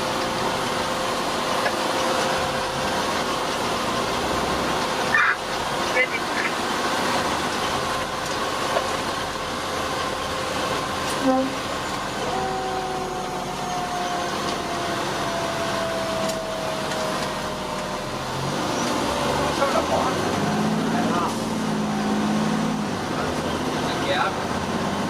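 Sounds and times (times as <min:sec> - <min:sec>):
engine and road noise: 0:00.0 - 0:25.0.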